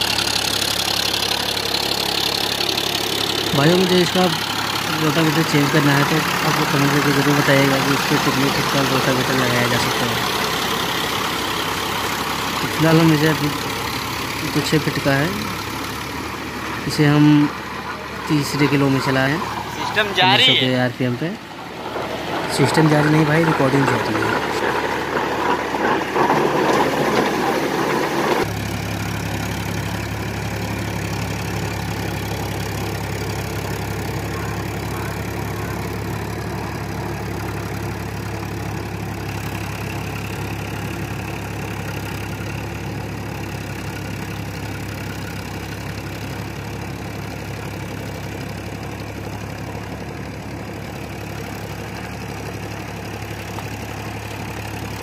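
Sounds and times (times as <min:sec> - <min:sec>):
rotavator churning mud: 0:00.0 - 0:19.9, 0:21.4 - 0:55.0
tractor diesel engine running: 0:00.0 - 0:55.0.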